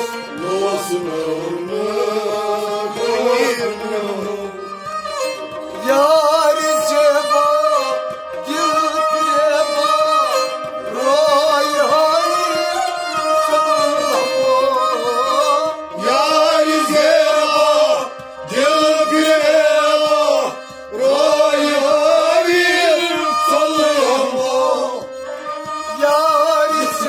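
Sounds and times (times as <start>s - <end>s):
harmonium held notes: 0.0s - 27.0s
man singing: 0.0s - 27.0s.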